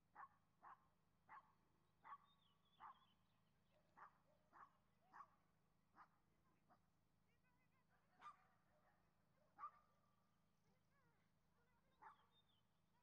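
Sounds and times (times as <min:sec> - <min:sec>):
dog barking faintly: 0:00.1 - 0:06.9, 0:07.8 - 0:10.1, 0:10.9 - 0:12.5.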